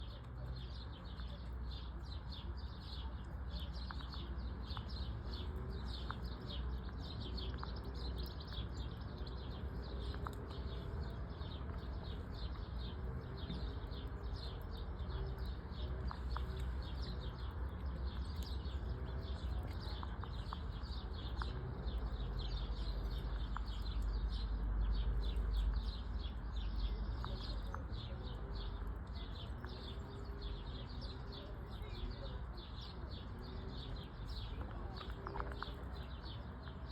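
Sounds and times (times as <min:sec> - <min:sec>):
birds chirping chorus: 0:00.0 - 0:36.9.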